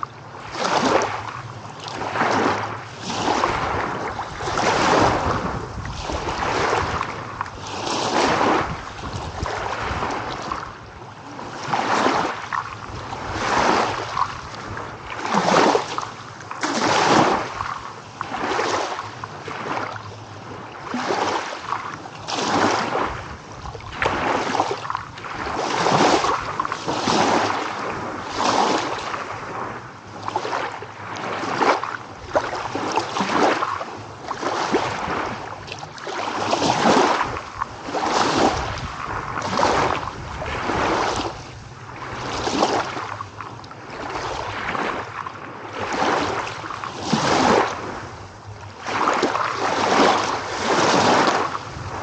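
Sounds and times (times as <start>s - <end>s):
small ocean waves washing in: 0.0s - 52.0s.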